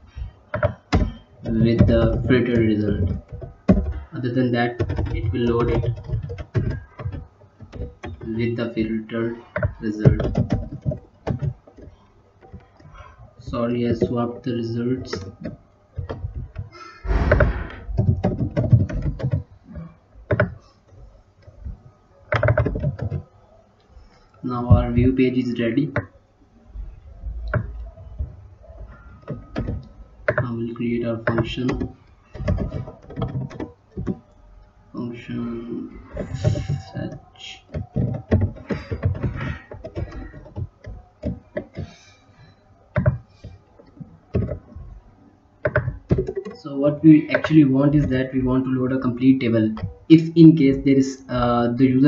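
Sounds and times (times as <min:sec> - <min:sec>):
typing on computer keyboard: 0:00.4 - 0:23.3, 0:27.3 - 0:34.4, 0:35.4 - 0:45.0, 0:45.6 - 0:46.6, 0:47.2 - 0:50.9.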